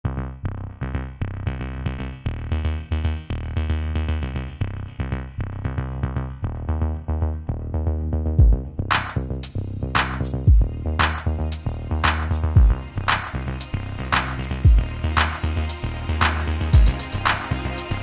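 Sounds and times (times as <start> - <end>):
electronic music: 1.0 - 18.0.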